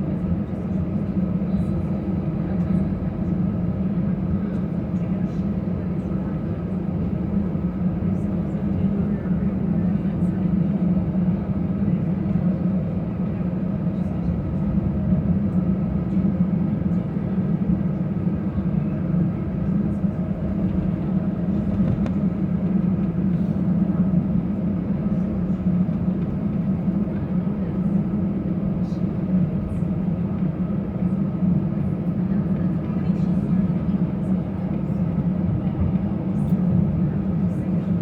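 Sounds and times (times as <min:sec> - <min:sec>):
airliner cabin drone: 0:00.0 - 0:38.0.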